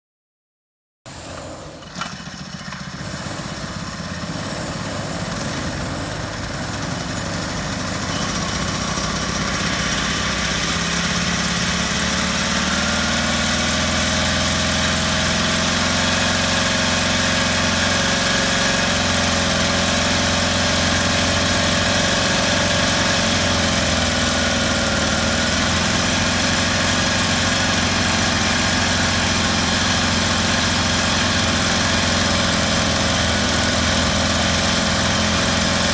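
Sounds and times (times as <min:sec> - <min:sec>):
outboard motor idling: 0:01.1 - 0:35.9.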